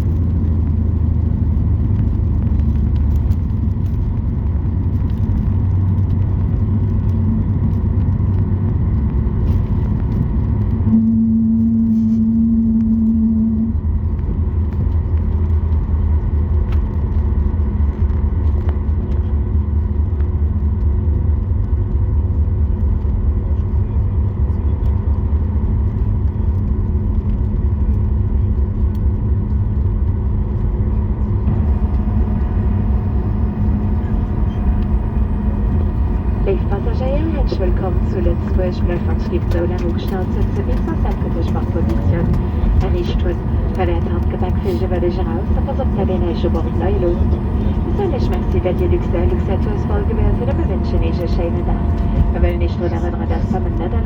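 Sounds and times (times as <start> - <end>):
steady hum: 0.0 - 18.5, 28.9 - 54.0
engine and wheel rumble: 0.0 - 54.0.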